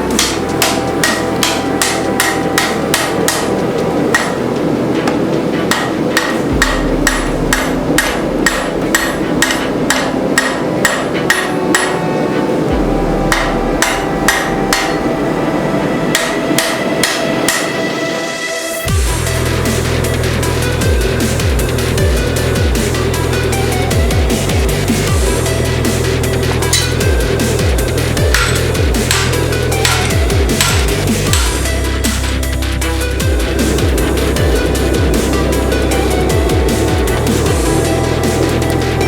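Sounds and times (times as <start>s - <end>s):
hammer striking hot steel: 0.0s - 18.1s, 18.9s - 39.0s.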